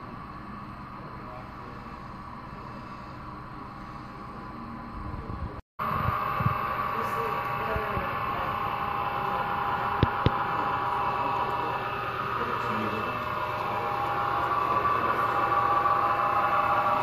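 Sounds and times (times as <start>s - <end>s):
model train whirring hum: 0.0s - 17.0s.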